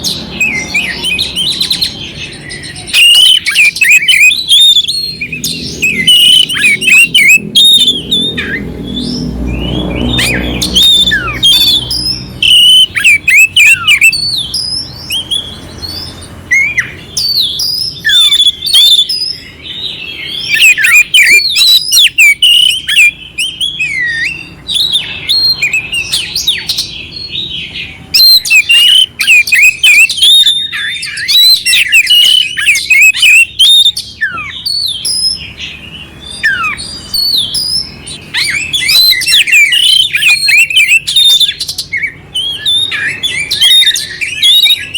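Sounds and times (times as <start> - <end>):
magpie-robin singing: 0.0 - 44.9.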